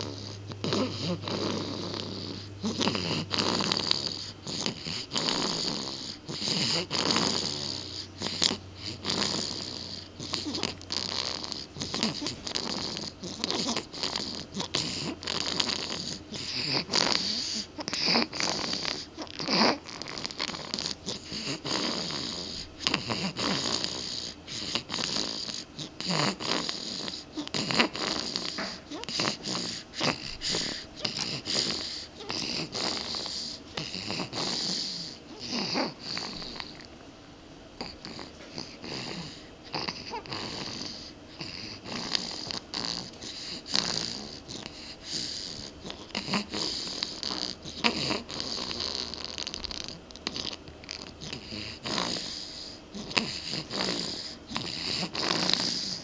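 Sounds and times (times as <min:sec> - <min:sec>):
person snoring: 0:00.0 - 0:36.9, 0:37.8 - 0:56.0.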